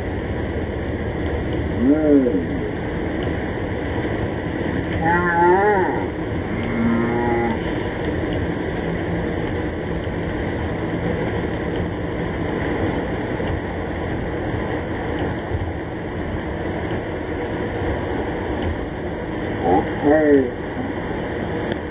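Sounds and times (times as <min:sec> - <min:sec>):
heavy rain on car: 0:00.0 - 0:21.9
road noise inside car: 0:00.0 - 0:21.9.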